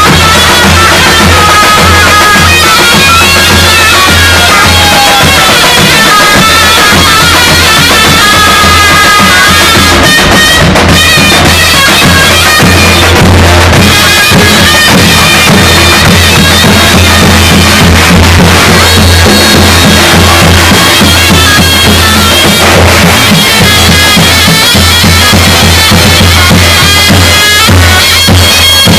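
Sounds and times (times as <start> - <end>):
low drum booming: 0.0 - 28.9
shrill reed pipe melody: 0.0 - 28.9.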